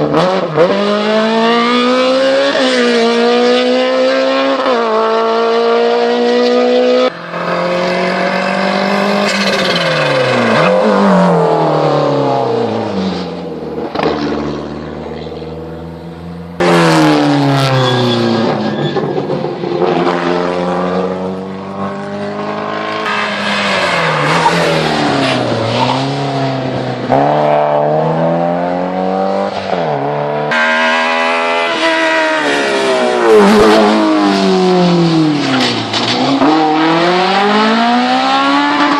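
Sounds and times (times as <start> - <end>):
race car engines at full throttle: 0.0 - 38.9.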